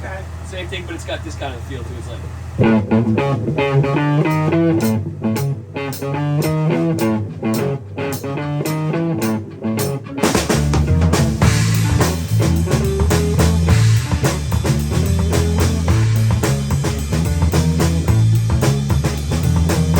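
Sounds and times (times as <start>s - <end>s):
bass guitar: 0.0s - 19.9s
electric guitar riff: 2.3s - 19.9s
drum kit: 2.6s - 19.9s.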